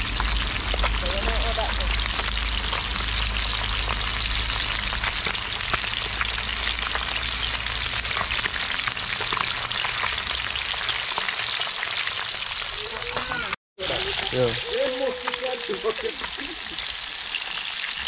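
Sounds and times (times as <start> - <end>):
fish frying in hot oil: 0.0 - 18.0.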